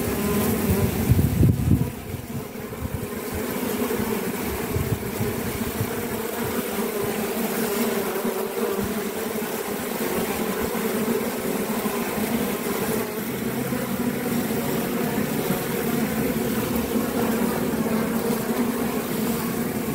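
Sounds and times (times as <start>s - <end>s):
honeybees buzzing: 0.0s - 19.9s.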